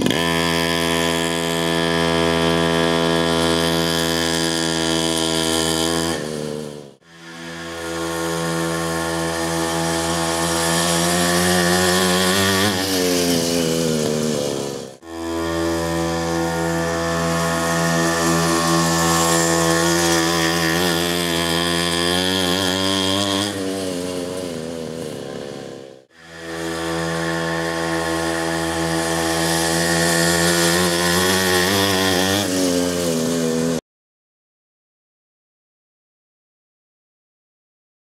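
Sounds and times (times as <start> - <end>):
two-stroke engine running: 0.0 - 33.8.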